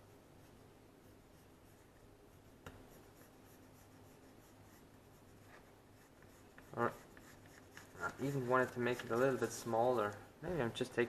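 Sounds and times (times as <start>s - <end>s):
pencil scratching on paper: 0.0s - 10.2s.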